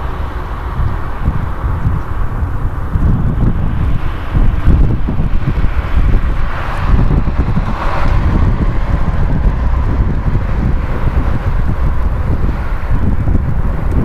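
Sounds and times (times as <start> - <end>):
jet engines rumbling: 0.0 - 14.0
wind buffeting microphone: 0.0 - 14.0.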